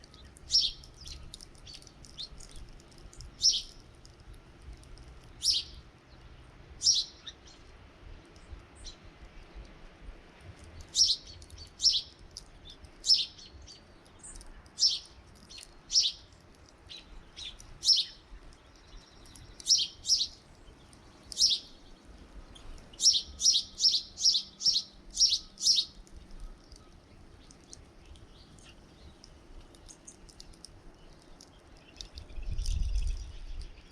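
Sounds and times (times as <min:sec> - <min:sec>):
small songbirds chirping: 0:00.0 - 0:33.9.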